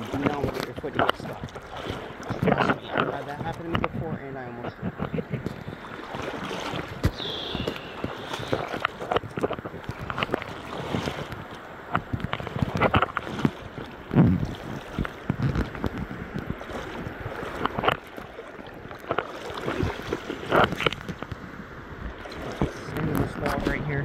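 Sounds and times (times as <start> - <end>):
rushing river water: 0.0 - 24.0
water splashing from wading: 0.0 - 24.0.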